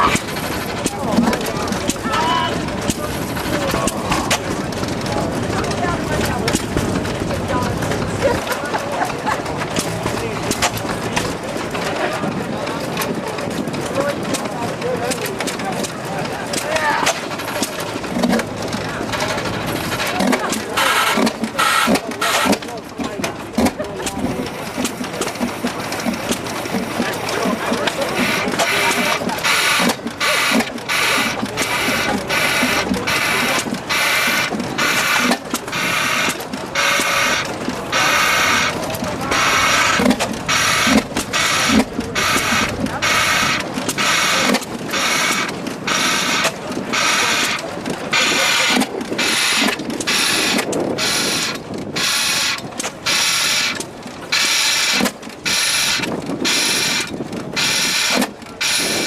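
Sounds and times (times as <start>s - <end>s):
stationary engine chuffing: 0.0s - 59.0s.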